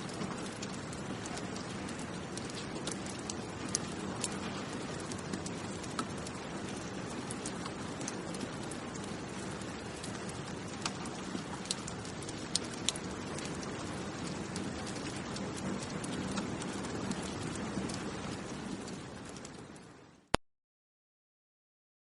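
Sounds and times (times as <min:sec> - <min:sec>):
steady rainfall: 0:00.0 - 0:20.4.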